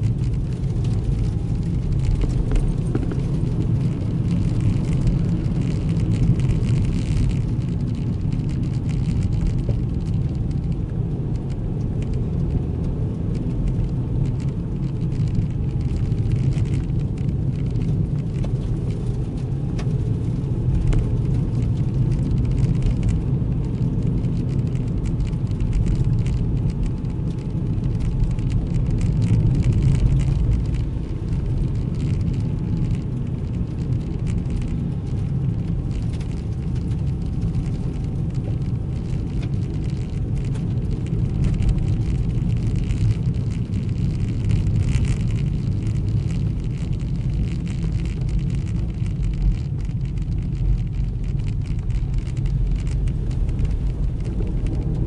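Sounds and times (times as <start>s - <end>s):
car engine and tyre rumble: 0.0s - 55.0s
faint engine whine: 0.0s - 55.0s.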